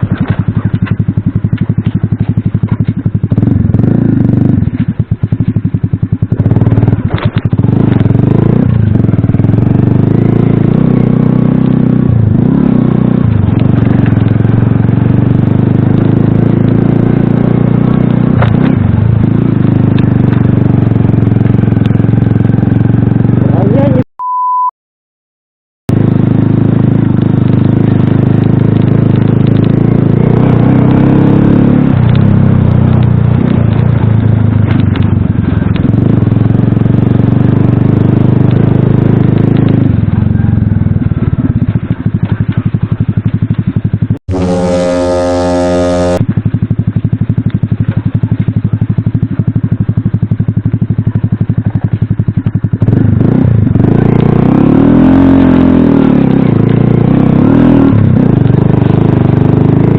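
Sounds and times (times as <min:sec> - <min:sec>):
moped engine running: 0:00.0 - 0:24.0, 0:25.9 - 0:59.9.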